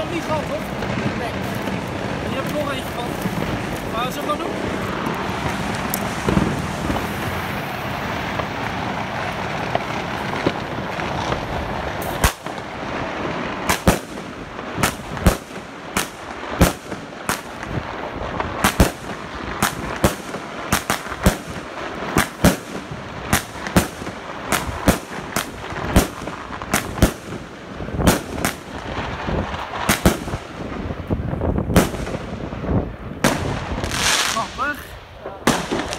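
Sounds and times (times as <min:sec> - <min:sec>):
firework bursts popping: 0:00.0 - 0:35.9
fireworks launch bangs: 0:00.0 - 0:35.9.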